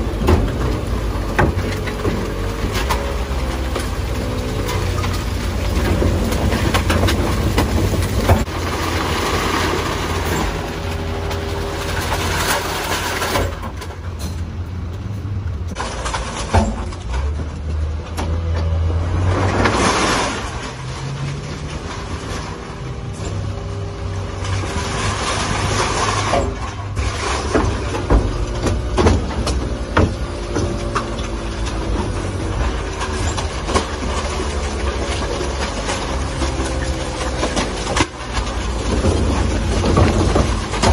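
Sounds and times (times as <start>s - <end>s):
garbage truck diesel engine: 0.0s - 40.9s.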